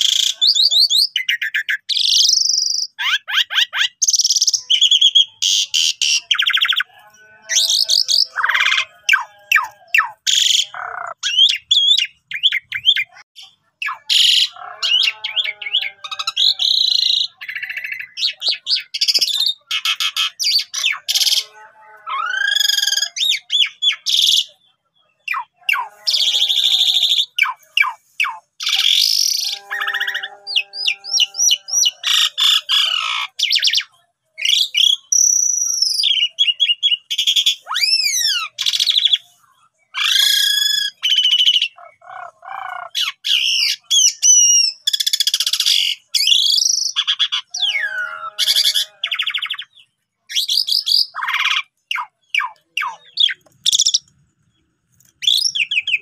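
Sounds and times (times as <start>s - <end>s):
starling singing: 0.0s - 54.1s, 55.0s - 56.0s.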